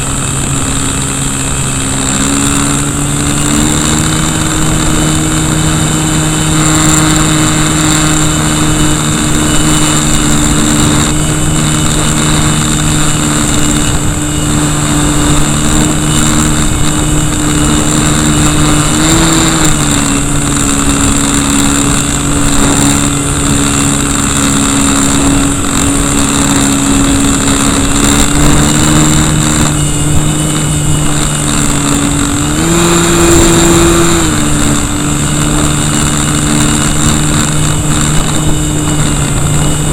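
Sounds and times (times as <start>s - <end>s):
electric motor and propeller whine: 0.0s - 39.9s
wind noise: 0.0s - 39.9s.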